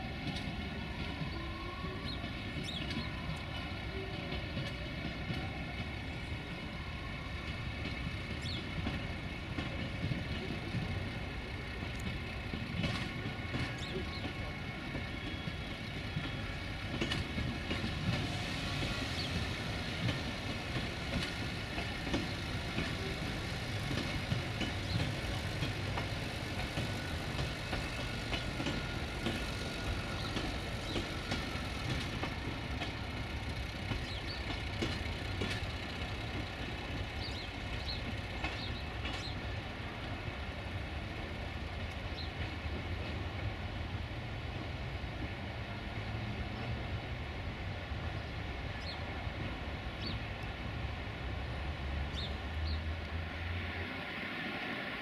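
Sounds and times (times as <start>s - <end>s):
train mechanical hum: 0.0s - 55.0s.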